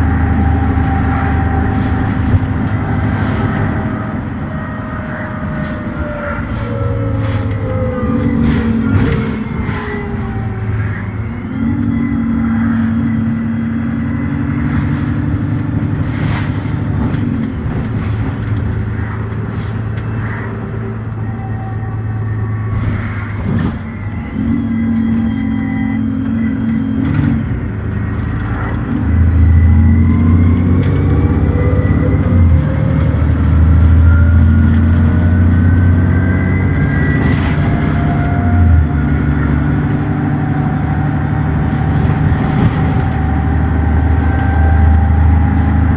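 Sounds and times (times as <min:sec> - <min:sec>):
bus diesel engine accelerating: 0:00.0 - 0:45.9.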